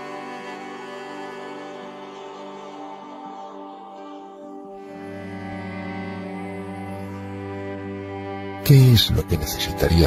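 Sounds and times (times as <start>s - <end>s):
calm background music: 0.0s - 10.0s.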